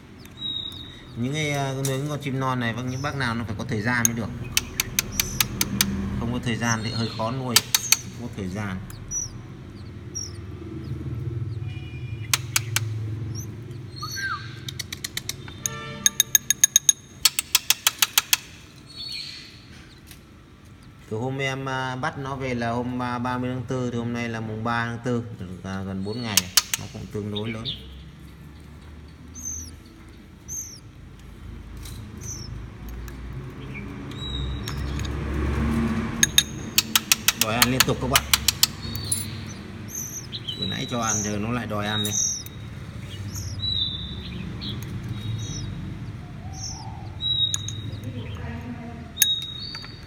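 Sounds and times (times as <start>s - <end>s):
nestlings begging cheeps: 0.0s - 21.0s, 25.7s - 50.0s
sharp clicks: 0.1s - 19.2s, 26.1s - 48.4s, 49.2s - 50.0s.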